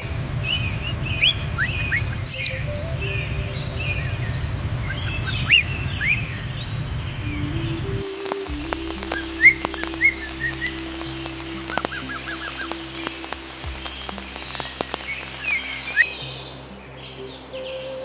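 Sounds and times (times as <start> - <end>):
steady low rumble: 0.0 - 17.5
small birds chirping: 0.0 - 18.0.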